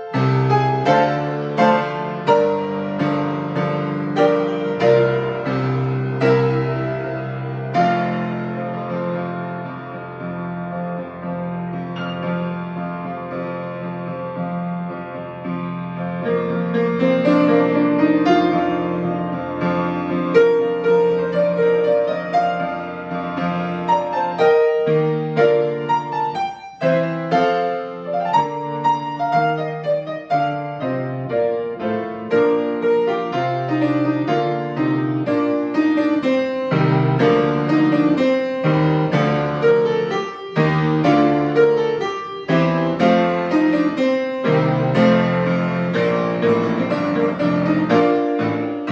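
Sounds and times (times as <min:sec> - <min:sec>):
piano playing a hymn: 0:00.0 - 0:48.9.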